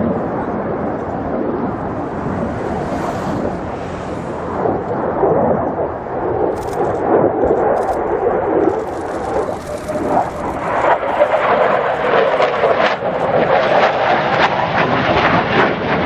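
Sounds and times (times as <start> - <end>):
fighter jet roaring: 0.0 - 16.0.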